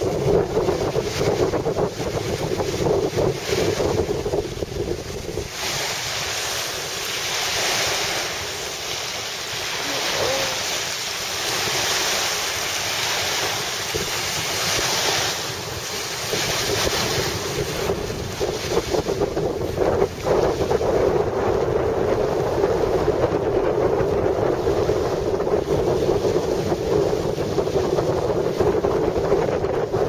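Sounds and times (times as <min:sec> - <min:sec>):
choppy sea surf: 0:00.0 - 0:30.0
wind buffeting microphone: 0:00.0 - 0:30.0.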